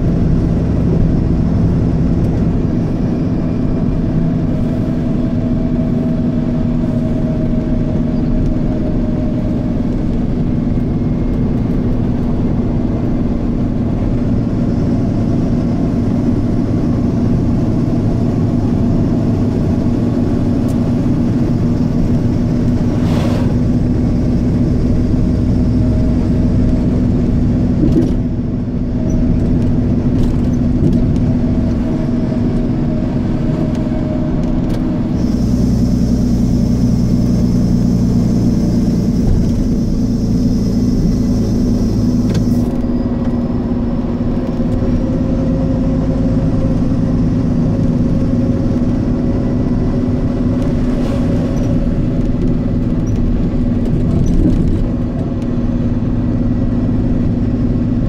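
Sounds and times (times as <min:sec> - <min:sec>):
car engine hum: 0:00.0 - 0:58.0.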